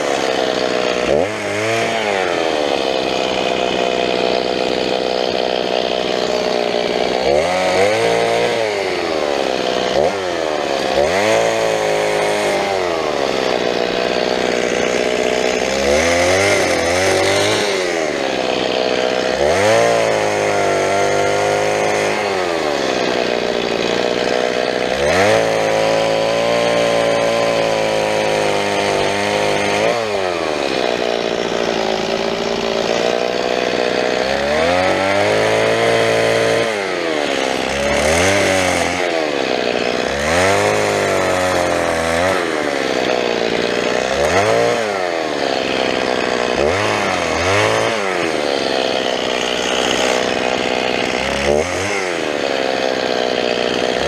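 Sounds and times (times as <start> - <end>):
chainsaw cutting branches: 0.0 - 54.0.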